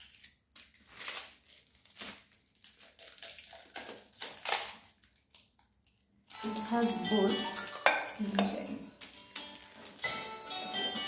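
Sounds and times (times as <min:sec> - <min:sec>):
packaging rustling and crinkling: 0:00.0 - 0:07.9, 0:08.9 - 0:11.0.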